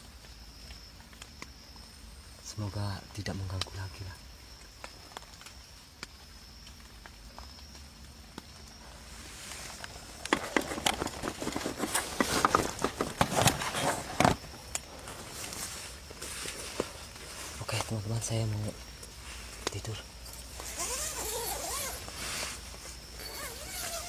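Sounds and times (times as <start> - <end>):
rustling and crackling: 3.0 - 24.0.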